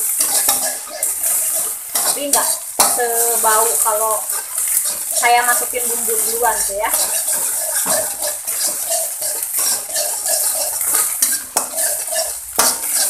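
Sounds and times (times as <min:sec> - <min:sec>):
eggs sizzling in oil: 0:00.0 - 0:13.0
metal spatula scraping wok: 0:00.0 - 0:13.0.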